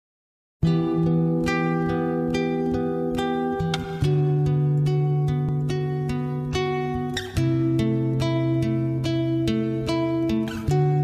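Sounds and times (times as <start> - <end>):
plucked string instrument: 0.6 - 11.0.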